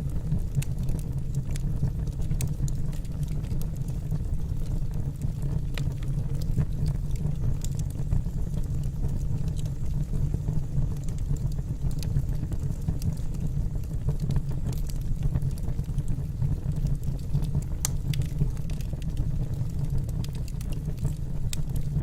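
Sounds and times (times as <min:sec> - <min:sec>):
logs crackling in fireplace: 0:00.0 - 0:22.0.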